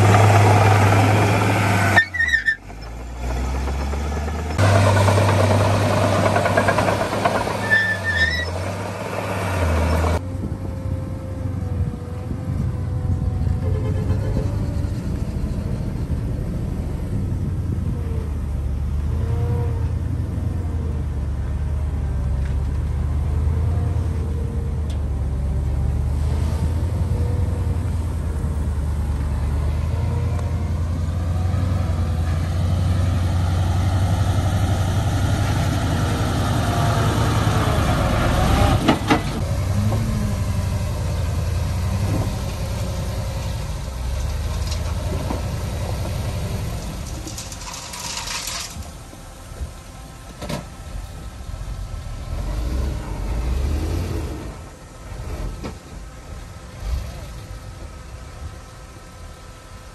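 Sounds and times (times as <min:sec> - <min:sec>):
heavy diesel engines droning: 0:00.0 - 0:59.9.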